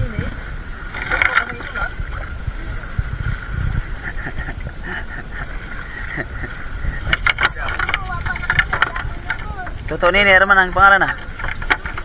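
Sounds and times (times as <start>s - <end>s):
low rumble of moving water: 0.0s - 12.0s
water splashing and sloshing: 0.0s - 12.0s.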